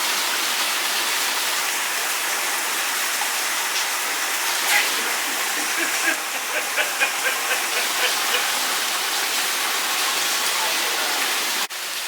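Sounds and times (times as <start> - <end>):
wind and rain through trees: 0.0 - 12.0.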